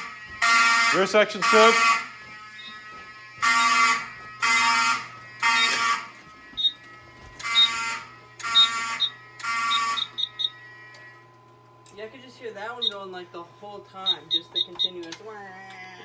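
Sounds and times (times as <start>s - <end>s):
fire alarm horn blasts: 0.0s - 11.4s, 12.7s - 13.2s, 14.0s - 15.1s.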